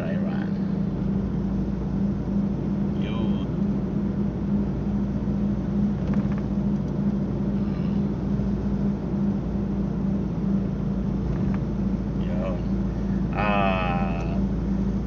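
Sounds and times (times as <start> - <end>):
car engine and tyres rumbling: 0.0 - 15.0
low hum: 0.0 - 15.0.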